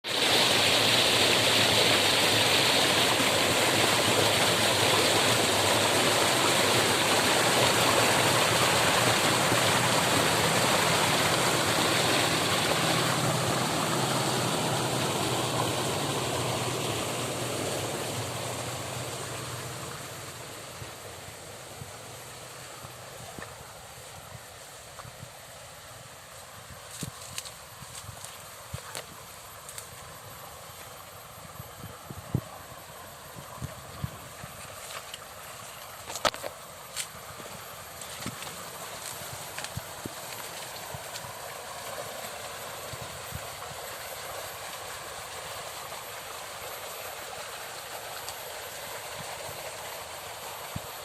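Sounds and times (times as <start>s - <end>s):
stream water flowing: 0.0s - 51.0s.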